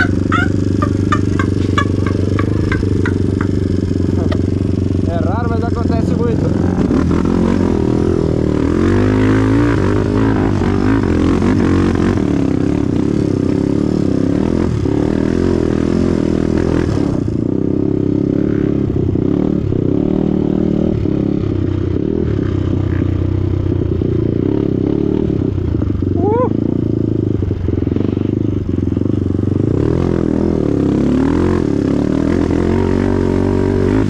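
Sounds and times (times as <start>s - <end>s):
motorcycle engine running hard: 0.0s - 34.0s.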